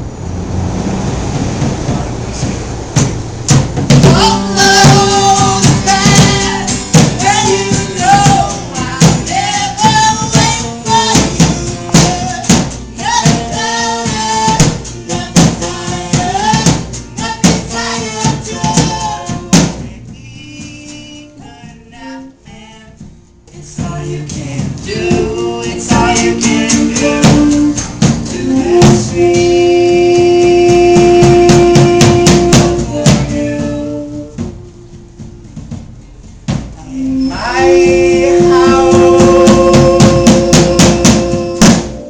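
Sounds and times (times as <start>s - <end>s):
live band playing: 0.5s - 42.0s
drum kit beat: 1.2s - 42.0s.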